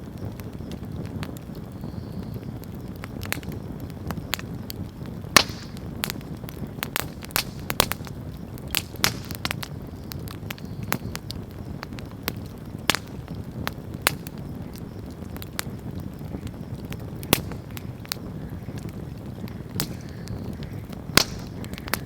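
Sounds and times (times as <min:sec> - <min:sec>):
fire crackles and pops: 0:00.0 - 0:22.0
flames rustling: 0:00.0 - 0:22.0.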